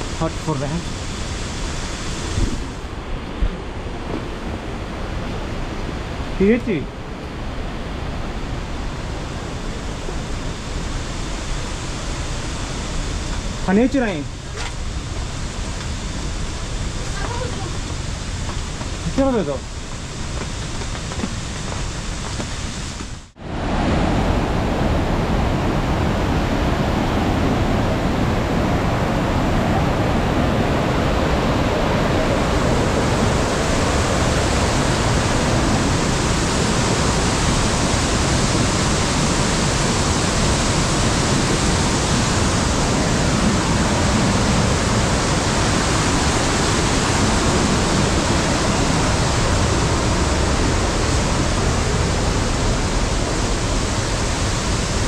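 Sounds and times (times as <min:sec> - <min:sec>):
waterfall rushing: 0:00.0 - 0:03.0, 0:04.4 - 0:55.0.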